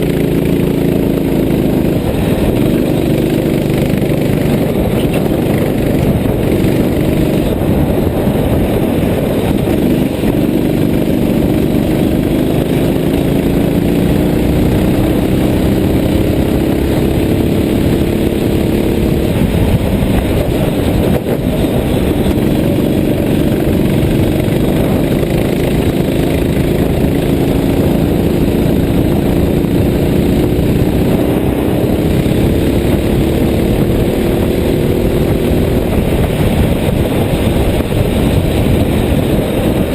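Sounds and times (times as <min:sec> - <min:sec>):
vehicle engine cruising: 0:00.0 - 0:39.9
wind and road noise: 0:00.0 - 0:39.9.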